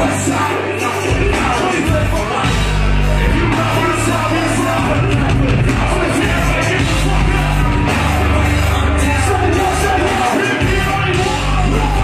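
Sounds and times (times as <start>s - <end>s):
heavy bass line: 0.0s - 12.0s
rap vocals: 0.0s - 12.0s.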